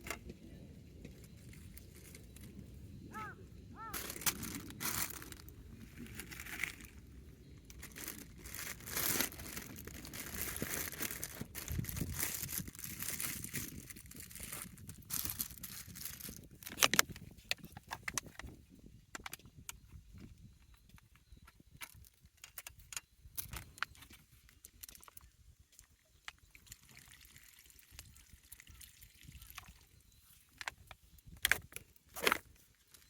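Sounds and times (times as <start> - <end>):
crinkling and crunching handling: 3.2 - 33.0.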